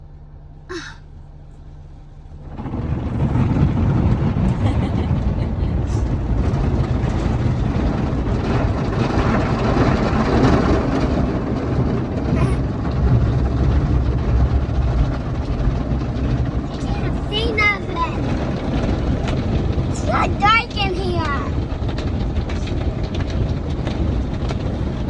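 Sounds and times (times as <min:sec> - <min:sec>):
car wash spraying water and machinery: 0:00.0 - 0:25.0.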